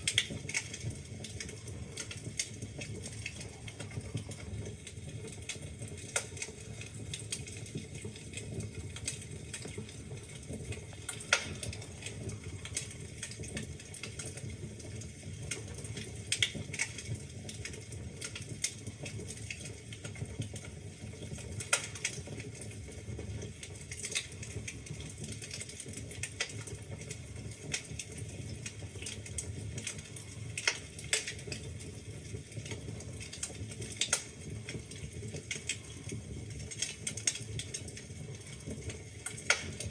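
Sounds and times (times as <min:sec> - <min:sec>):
fire snapping and popping: 0:00.0 - 0:39.9
wood fire rumbling: 0:00.0 - 0:39.9.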